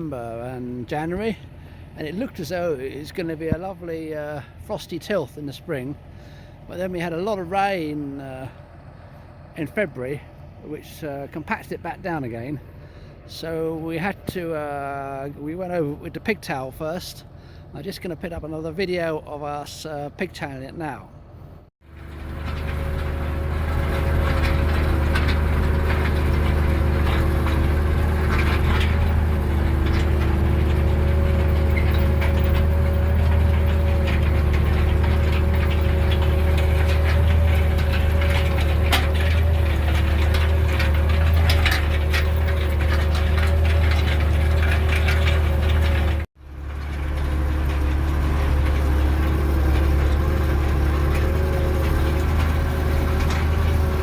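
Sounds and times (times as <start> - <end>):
faint implement rattling: 0.0 - 54.0
tractor engine under load: 0.0 - 54.0.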